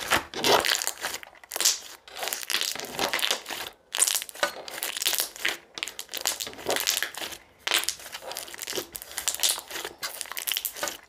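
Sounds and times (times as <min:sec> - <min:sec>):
slime squeezed crackling and popping: 0:00.0 - 0:11.0.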